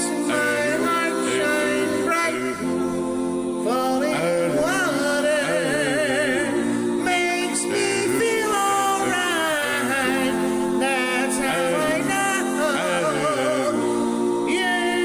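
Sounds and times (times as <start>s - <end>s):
a cappella male vocal harmonies: 0.0s - 15.0s.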